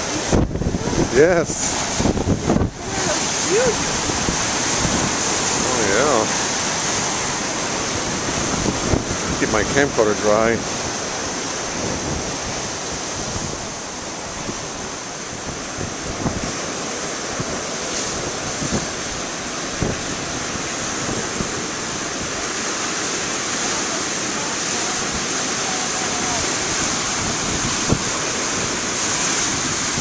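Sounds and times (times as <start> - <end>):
waves breaking on rocks: 0.0 - 30.0
wind buffeting microphone: 0.0 - 30.0.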